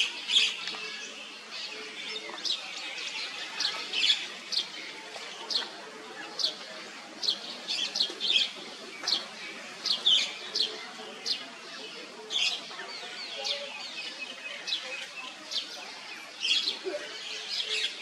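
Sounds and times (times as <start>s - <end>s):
faint outdoor background: 0.0s - 18.0s
small birds chirping: 0.0s - 18.0s.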